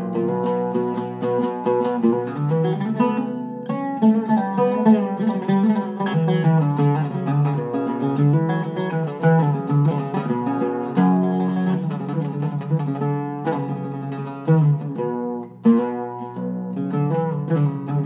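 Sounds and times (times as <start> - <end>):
oud plucked notes: 0.0 - 18.0.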